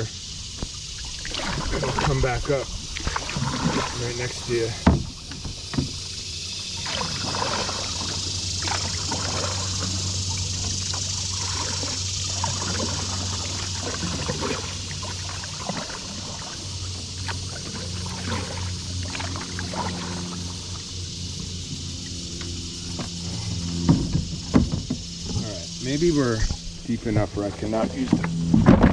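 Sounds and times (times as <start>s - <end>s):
steady low hum: 0.0s - 28.9s
water splashing from paddling: 0.0s - 28.9s.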